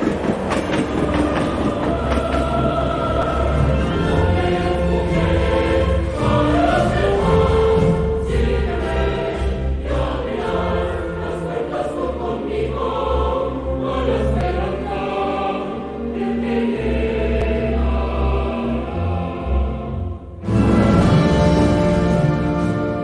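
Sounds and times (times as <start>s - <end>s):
choir singing with accompaniment: 0.0s - 23.0s.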